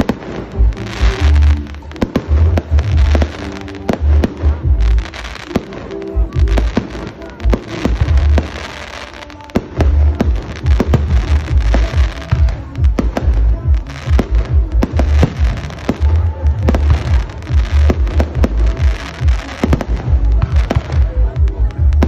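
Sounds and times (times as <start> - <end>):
fireworks bangs and crackles: 0.0 - 22.0
music with deep bass: 0.0 - 22.0.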